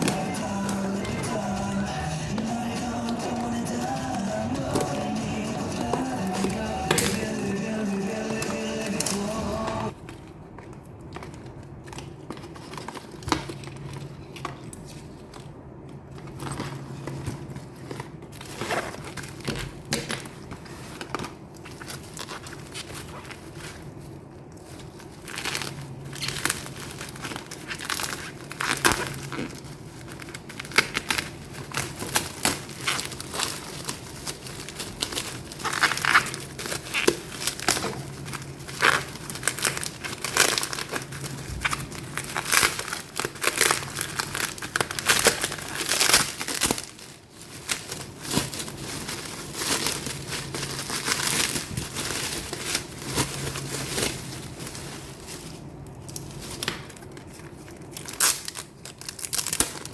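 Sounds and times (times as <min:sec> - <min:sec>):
packaging crinkling and rustling: 0:00.0 - 0:59.9
packaging tearing: 0:02.4 - 0:10.0, 0:17.6 - 0:59.9.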